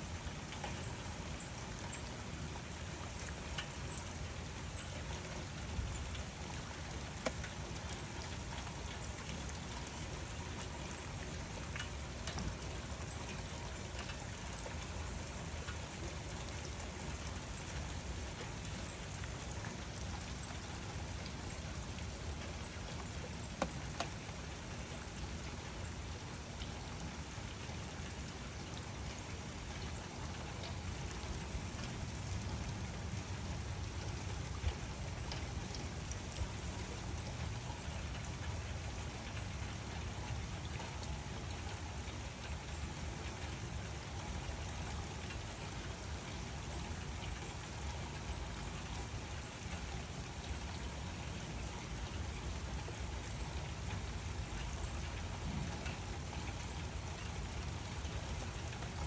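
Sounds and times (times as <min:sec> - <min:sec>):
sharp water drips: 0:00.0 - 0:59.0
steady rain: 0:00.0 - 0:59.0.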